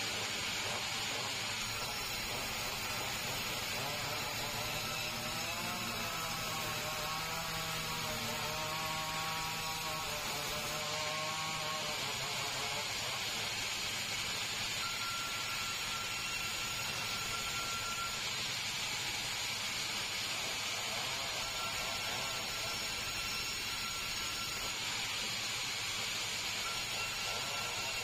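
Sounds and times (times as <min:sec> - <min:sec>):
machine whine: 0:00.0 - 0:28.0
sawmill machinery hiss: 0:00.0 - 0:28.0.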